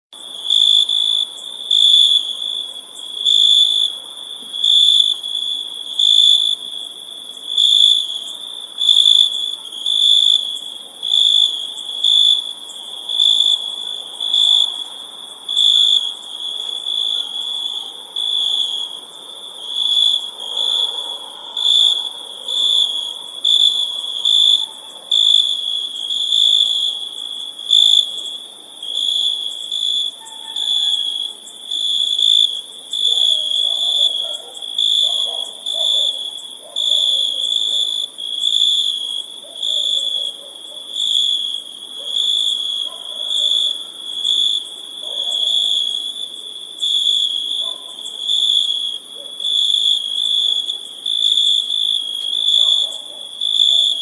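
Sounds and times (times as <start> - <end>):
crickets chirping: 0.2 - 54.0.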